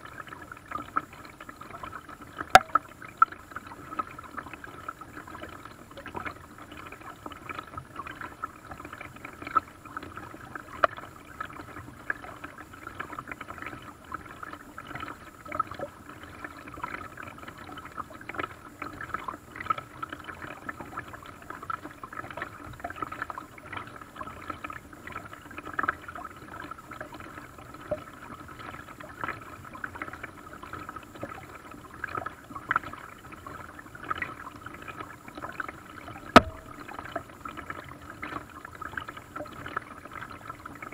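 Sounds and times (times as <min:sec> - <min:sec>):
small splashes and drips: 0:00.0 - 0:40.9
water lapping and gurgling: 0:00.0 - 0:40.9.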